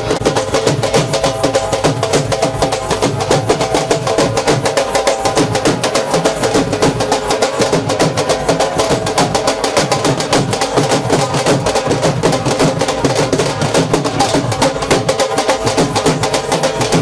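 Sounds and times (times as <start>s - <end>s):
dhol drums beaten with sticks: 0.0s - 17.0s.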